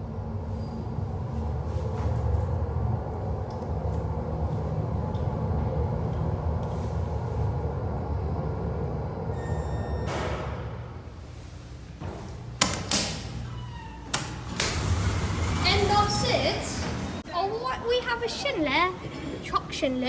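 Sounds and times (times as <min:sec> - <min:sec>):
elevator low rumble: 0:00.0 - 0:20.0.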